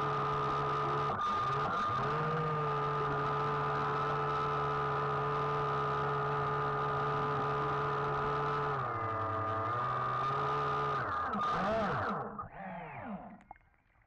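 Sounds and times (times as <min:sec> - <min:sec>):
small electric motor whining underwater: 0:00.0 - 0:14.0.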